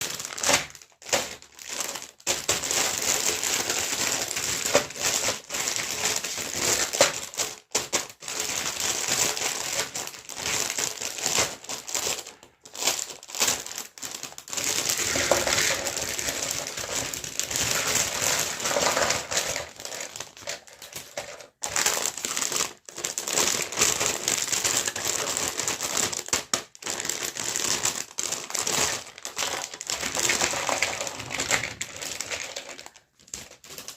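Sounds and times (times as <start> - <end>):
plastic packaging crinkling: 0.0 - 33.9.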